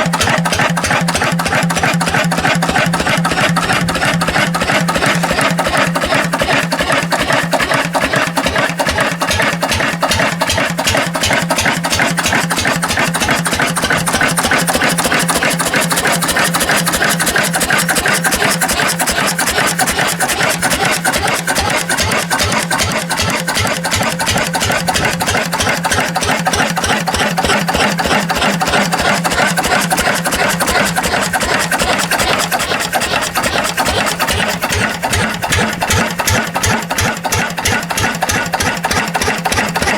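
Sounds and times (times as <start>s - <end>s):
stationary diesel engine running: 0.0s - 39.9s.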